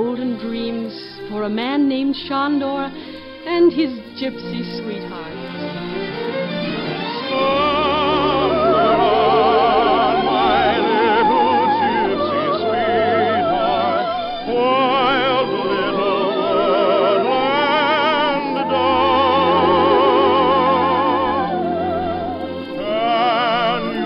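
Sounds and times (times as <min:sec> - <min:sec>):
operetta singing with orchestra: 0:00.0 - 0:24.0.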